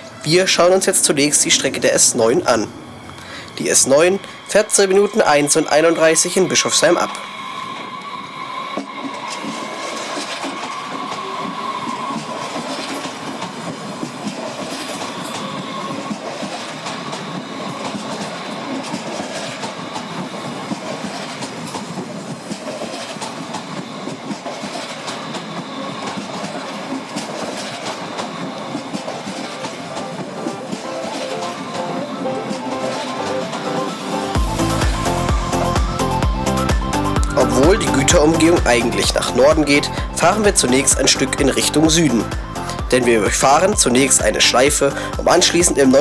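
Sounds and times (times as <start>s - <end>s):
train rolling past: 0.0s - 46.0s.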